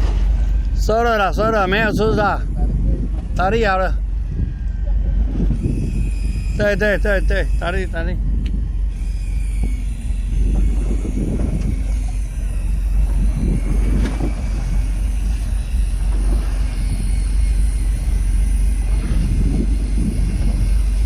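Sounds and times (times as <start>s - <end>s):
boat engine droning: 0.0s - 21.0s
gusty rushing noise: 0.0s - 21.0s.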